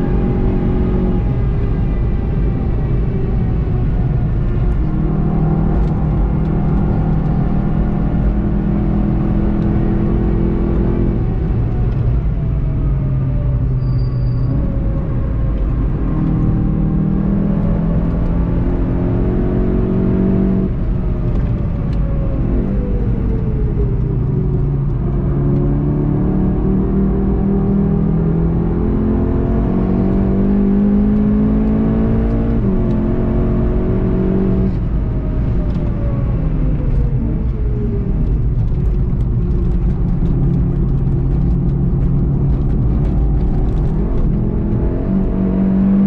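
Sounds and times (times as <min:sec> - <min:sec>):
car engine at speed: 0:00.0 - 0:46.0
tyre and road rumble: 0:00.0 - 0:46.0.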